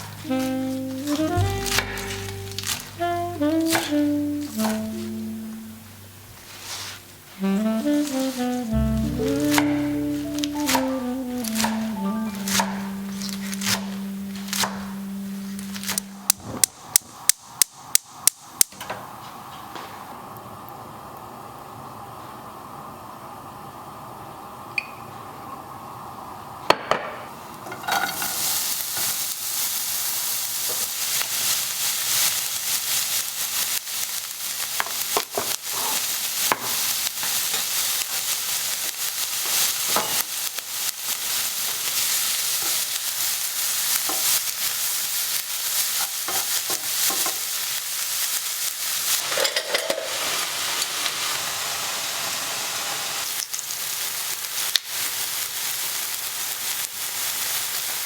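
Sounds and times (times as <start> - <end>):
food sizzling in a pan: 0.0 - 18.2, 27.7 - 58.0.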